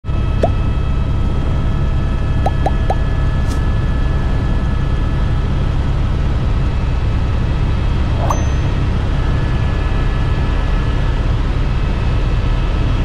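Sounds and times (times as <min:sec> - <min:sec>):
helicopter rotor and engine rumble: 0:00.1 - 0:13.0.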